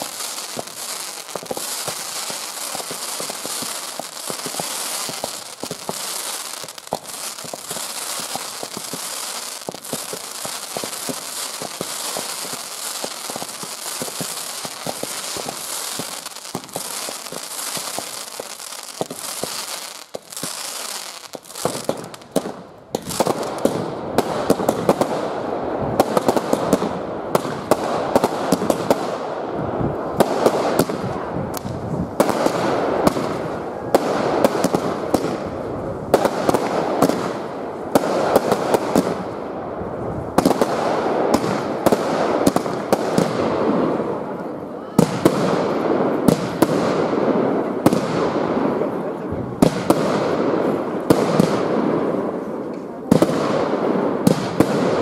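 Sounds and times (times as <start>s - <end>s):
fireworks crackling and popping: 0.0s - 55.0s
hissing firework fountains: 0.0s - 55.0s.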